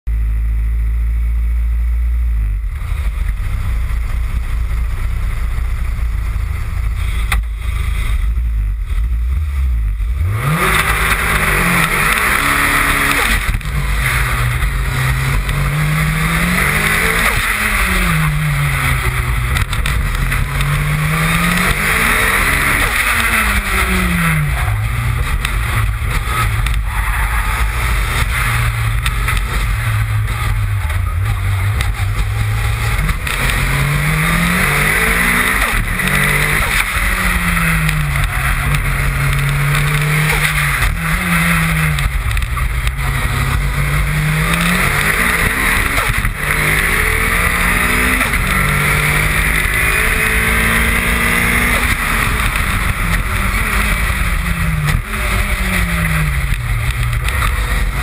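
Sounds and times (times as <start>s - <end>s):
road noise: 0.0s - 58.0s
car engine revving: 0.1s - 58.0s.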